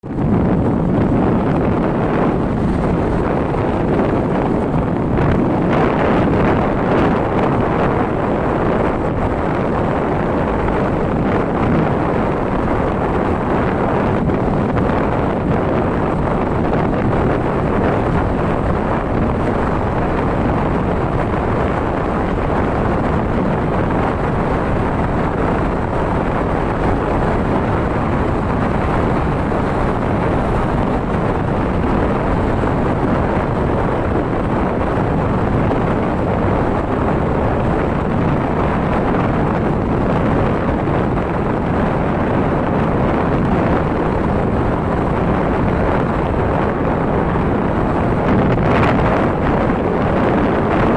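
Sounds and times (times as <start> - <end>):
dull vehicle noise: 0.0 - 50.9
wind rushing over microphone: 0.0 - 50.9.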